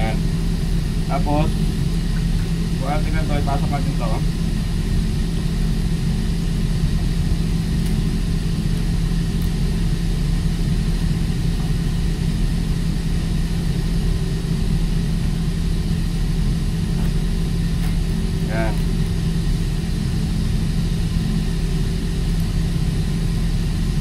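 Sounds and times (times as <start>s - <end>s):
machinery droning: 0.0s - 24.0s.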